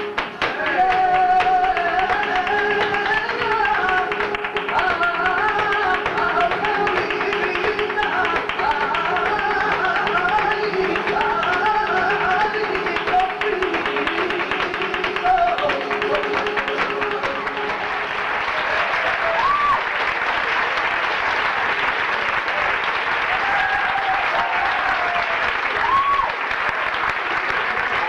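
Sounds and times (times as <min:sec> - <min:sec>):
audience applauding and cheering: 0:00.0 - 0:28.0
flamenco music: 0:00.0 - 0:28.0.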